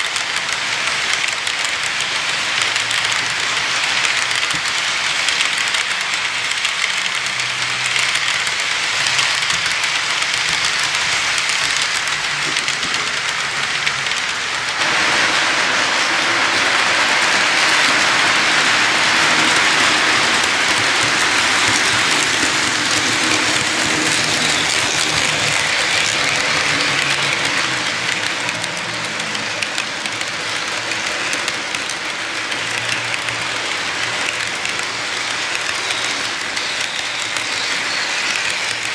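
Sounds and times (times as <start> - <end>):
model train wheels on rails: 0.0 - 38.9.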